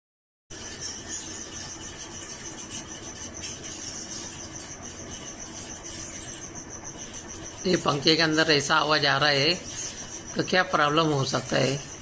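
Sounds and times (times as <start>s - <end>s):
electric fan running: 0.5s - 12.0s
high jingling inside fan: 0.5s - 12.0s.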